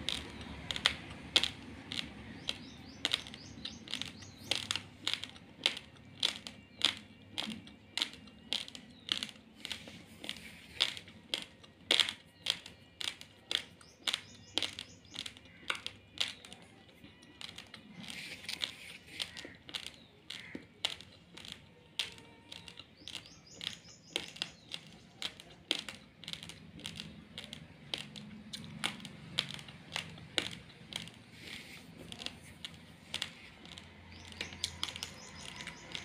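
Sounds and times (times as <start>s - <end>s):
gritty grinding of chewing: 0.0s - 36.0s
raw rice crunching: 0.0s - 36.0s.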